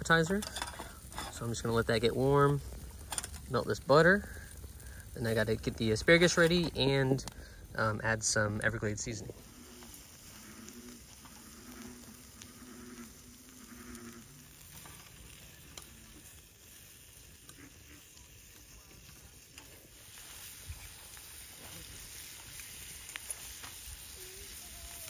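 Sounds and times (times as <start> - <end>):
food sizzling in skillets: 0.0 - 25.0
wood fire crackling and popping: 0.0 - 25.0.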